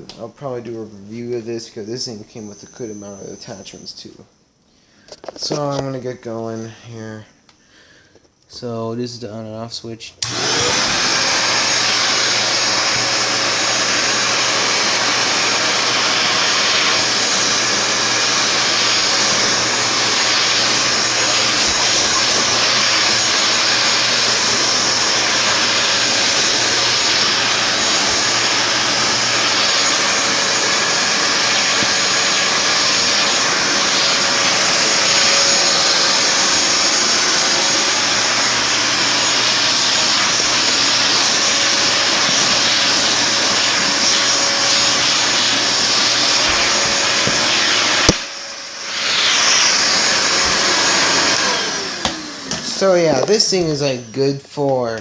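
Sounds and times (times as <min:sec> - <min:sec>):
hand vacuum running: 0:10.2 - 0:55.0.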